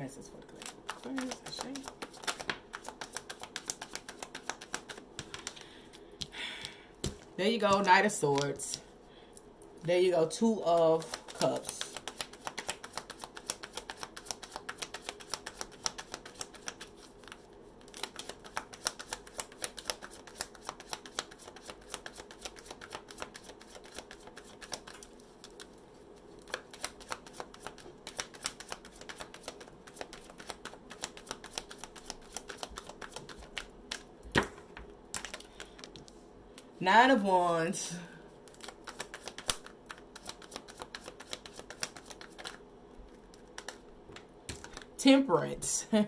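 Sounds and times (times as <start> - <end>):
cards being shuffled by hand: 0.3 - 8.8, 10.6 - 36.2, 38.4 - 45.0.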